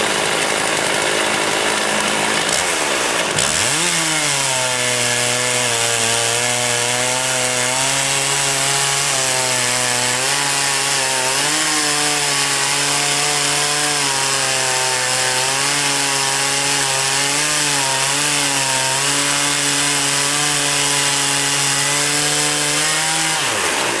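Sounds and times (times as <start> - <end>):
saw cutting through wood: 0.0 - 24.0
sawmill engine running: 0.0 - 24.0.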